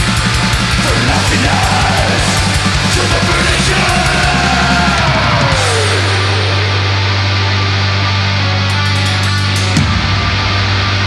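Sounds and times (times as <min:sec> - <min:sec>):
distorted guitars: 0:00.0 - 0:11.0.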